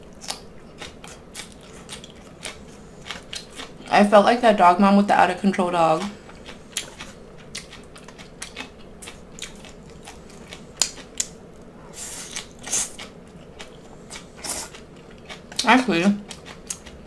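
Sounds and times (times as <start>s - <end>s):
chewing with wet mouth clicks: 0.2s - 3.9s, 6.0s - 11.4s, 12.3s - 17.0s.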